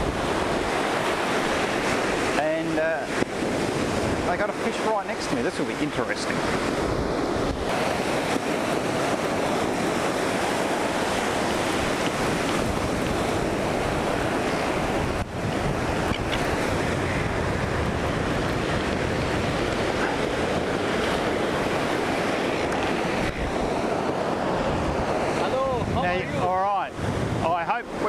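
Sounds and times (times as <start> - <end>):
ocean waves breaking: 0.0 - 28.0
wind buffeting microphone: 0.0 - 28.0.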